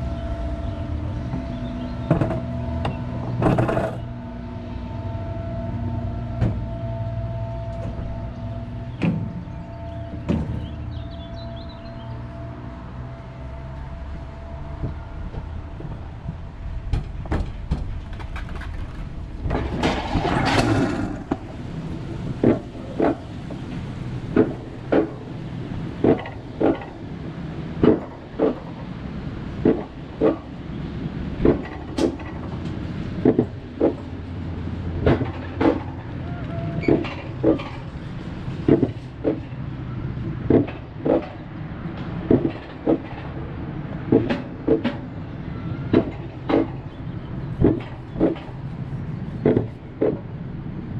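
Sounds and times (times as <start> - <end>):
coaster sled rumbling on track: 0.0 - 50.9
wheels clacking over rail joints: 0.0 - 50.9.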